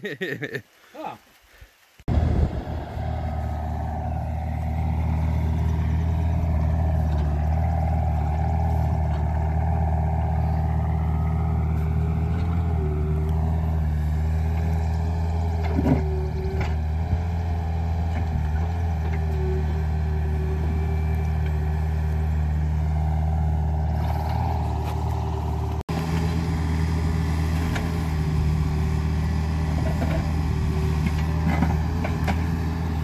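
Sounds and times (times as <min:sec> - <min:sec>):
excavator engine running: 0:02.1 - 0:33.0.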